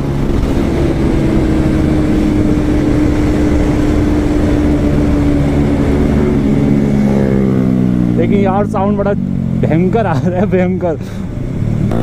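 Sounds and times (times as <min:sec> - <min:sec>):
wind rushing over microphone: 0:00.0 - 0:10.0
motorcycle engine running: 0:00.0 - 0:12.0.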